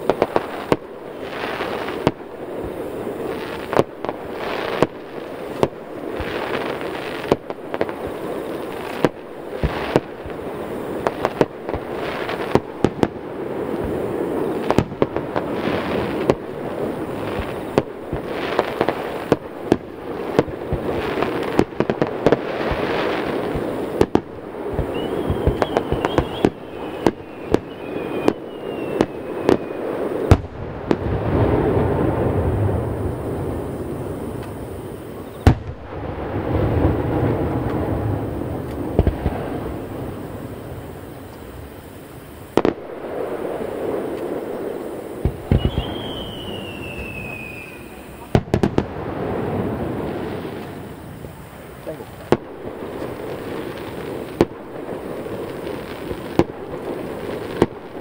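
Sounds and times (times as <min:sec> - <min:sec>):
firework whistles: 0:00.0 - 0:58.0
fireworks bursting with bangs: 0:00.0 - 0:58.0
fireworks crackling: 0:00.0 - 0:58.0.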